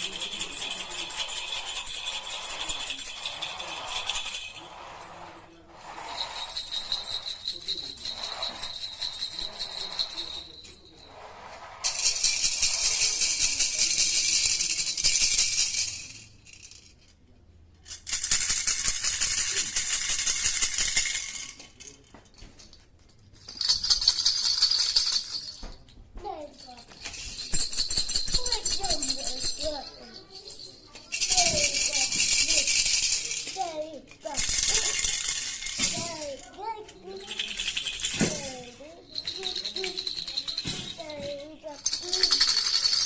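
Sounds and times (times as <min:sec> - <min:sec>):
baby rattle shaken: 0:00.0 - 0:17.2, 0:17.8 - 0:43.0.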